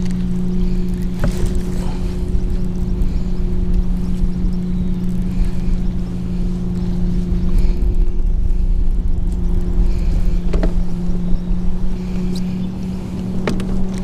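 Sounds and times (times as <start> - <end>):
low rumble: 0.0 - 14.0
motor drone: 0.0 - 14.0.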